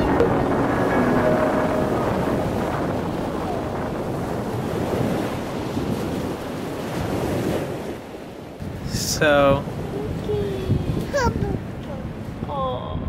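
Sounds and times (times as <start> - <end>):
ocean surf breaking: 0.0 - 12.4
wind buffeting microphone: 1.8 - 13.0.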